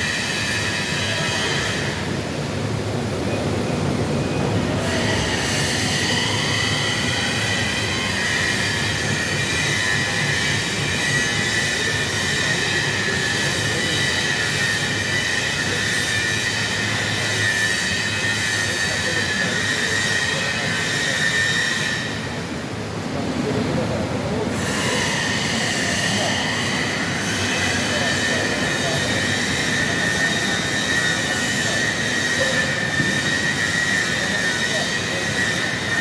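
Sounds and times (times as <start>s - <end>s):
cutting tool squealing on metal: 0.0s - 2.0s, 4.8s - 22.3s, 24.5s - 36.0s.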